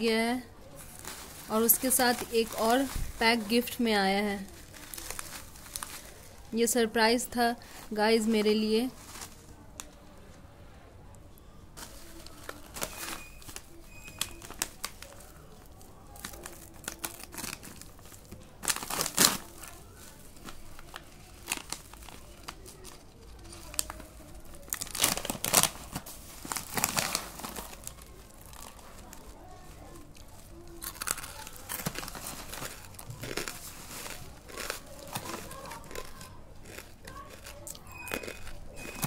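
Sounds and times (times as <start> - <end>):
plastic packaging crinkling: 0.0 - 10.0, 11.8 - 39.0.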